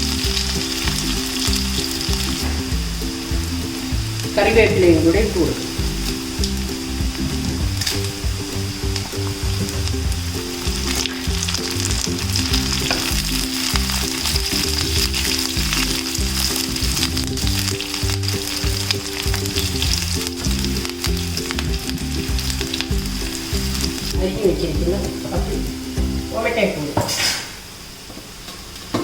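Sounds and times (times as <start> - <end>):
food sizzling in oil: 0.0 - 26.5
background music low notes: 0.0 - 26.9.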